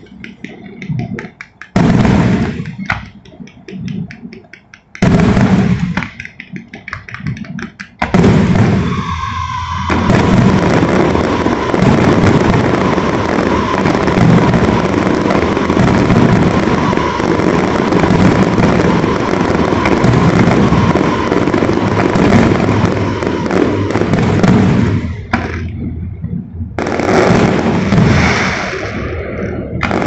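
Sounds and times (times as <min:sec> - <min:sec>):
fireworks bursts and booms: 0:00.0 - 0:30.0.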